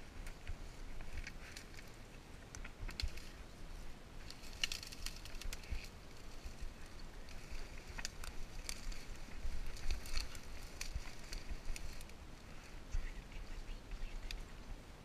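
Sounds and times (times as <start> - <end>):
leaves and twigs rustling: 0.0 - 15.0.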